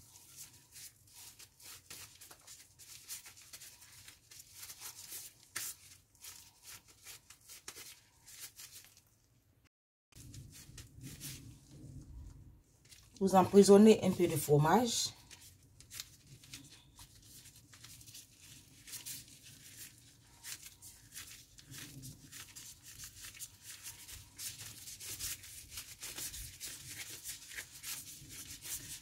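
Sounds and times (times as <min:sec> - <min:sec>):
plastic gloves crinkling: 0:00.0 - 0:09.4, 0:10.2 - 0:29.0.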